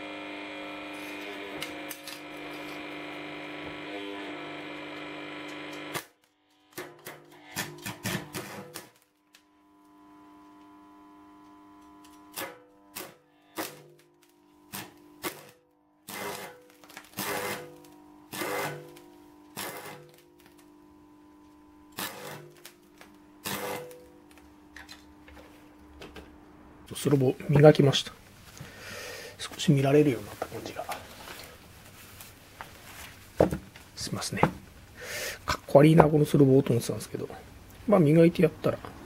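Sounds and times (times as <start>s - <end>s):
electric arc welding crackling: 0.0s - 28.4s, 29.3s - 39.0s.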